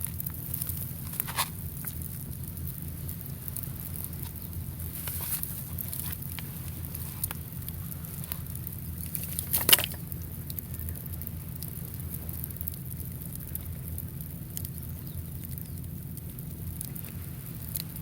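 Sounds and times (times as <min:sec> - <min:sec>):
steady low rumble: 0:00.0 - 0:18.0
wood fire crackling and popping: 0:00.0 - 0:18.0.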